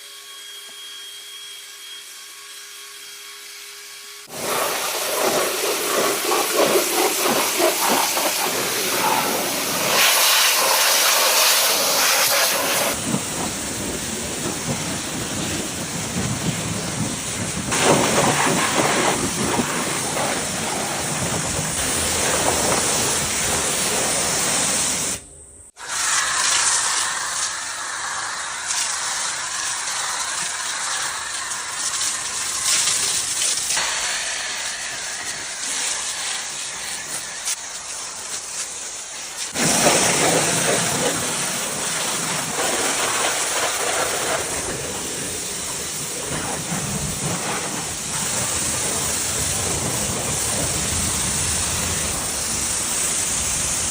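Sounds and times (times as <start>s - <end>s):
loud steady hissing noise: 3.4s - 53.9s.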